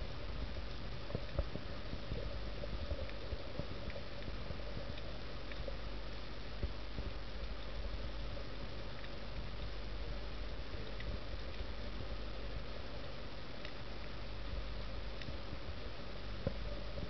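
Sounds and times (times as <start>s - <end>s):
muffled underwater rumble and hiss: 0.0s - 17.0s
small underwater clicks and pops: 0.2s - 17.0s.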